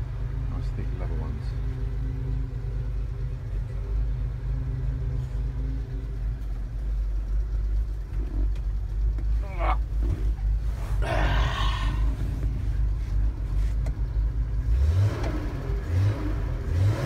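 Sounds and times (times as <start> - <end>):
van engine idling: 0.0 - 16.8.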